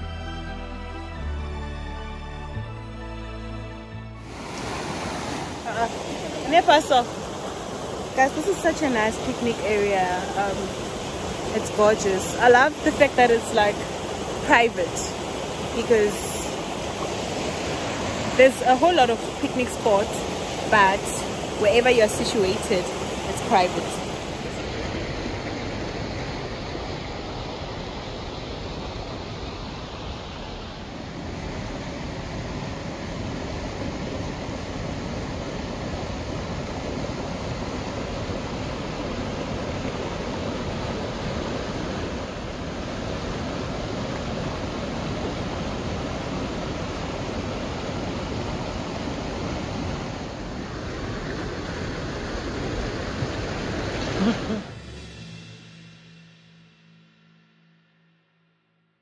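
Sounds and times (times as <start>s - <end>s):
river rushing over rocks: 4.2s - 54.7s.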